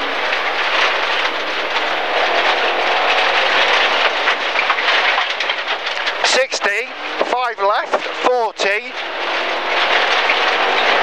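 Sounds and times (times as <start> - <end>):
car engine running under load: 0.0 - 11.0
loose stones rattling against car: 0.0 - 11.0
tyres on gravel rushing: 0.0 - 11.0.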